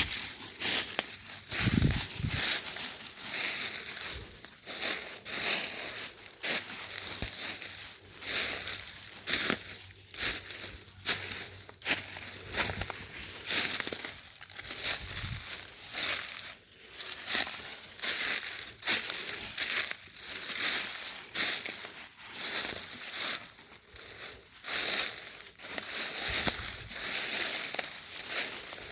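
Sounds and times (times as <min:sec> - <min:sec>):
footsteps crunching dry leaves: 0:00.0 - 0:28.9.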